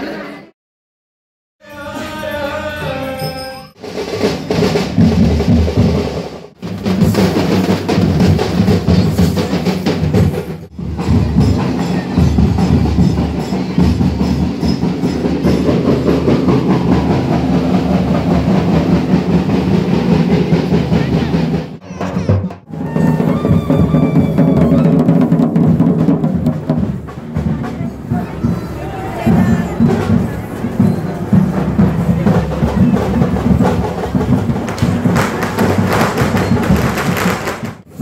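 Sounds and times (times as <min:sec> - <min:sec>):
loud dense drumming: 0:03.8 - 0:38.0.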